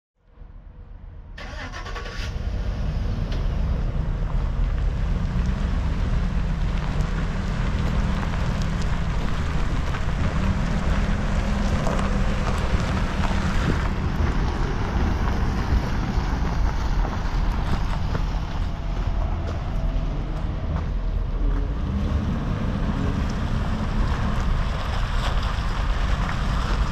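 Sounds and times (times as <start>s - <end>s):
truck engine starting and idling: 0.4s - 26.9s.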